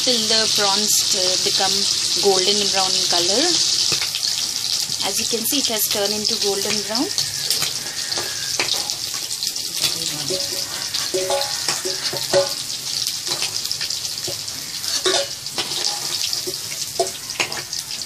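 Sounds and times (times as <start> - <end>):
deep-frying crackling sizzle: 0.0 - 18.0.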